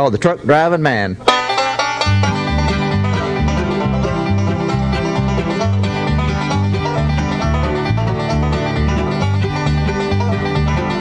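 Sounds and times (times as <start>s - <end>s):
banjo picking fast lead: 1.2s - 11.0s
alternating bass notes: 1.3s - 11.0s.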